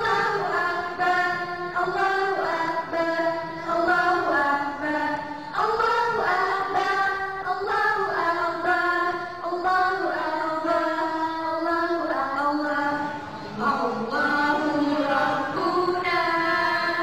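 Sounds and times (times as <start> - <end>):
girls singing together: 0.0 - 17.0.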